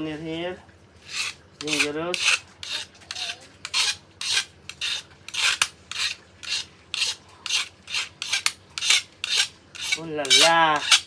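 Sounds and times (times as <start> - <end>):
knife scraping bamboo stick: 1.0 - 11.0.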